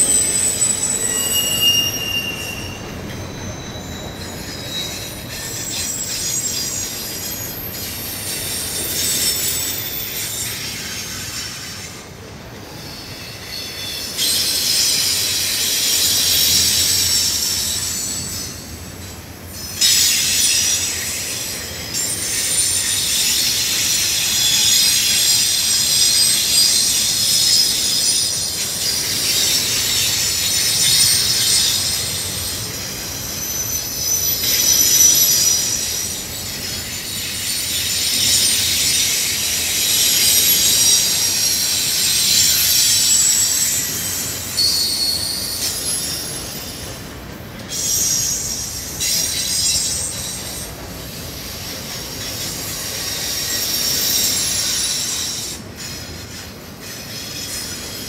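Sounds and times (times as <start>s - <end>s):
freight train rumble: 0.0s - 58.0s
train wheels squealing on rail: 0.0s - 58.0s.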